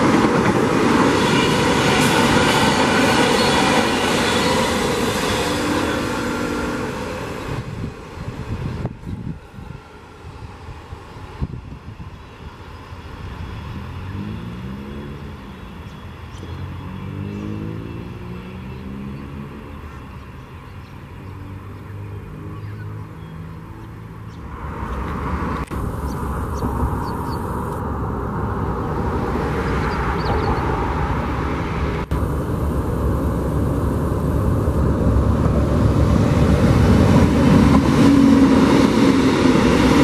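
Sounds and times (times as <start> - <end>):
train humming tone: 0.0 - 20.7, 24.8 - 40.0
train passing rumble: 0.0 - 21.8, 22.7 - 40.0.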